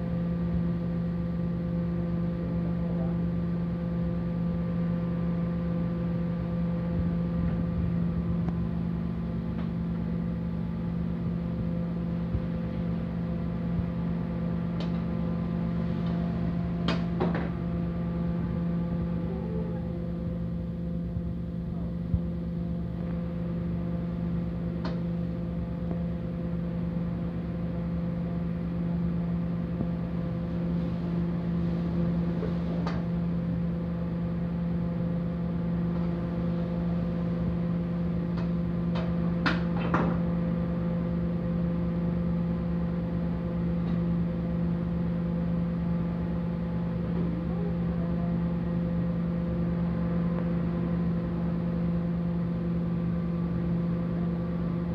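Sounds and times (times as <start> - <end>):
gas flame burning: 0.0 - 54.9
kitchen range fan humming: 0.0 - 54.9.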